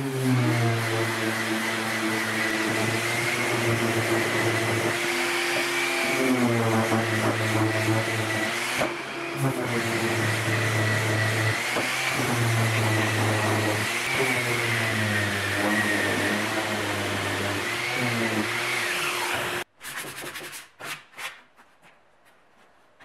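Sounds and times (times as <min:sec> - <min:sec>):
electric orbital sander on wood: 0:00.0 - 0:19.7.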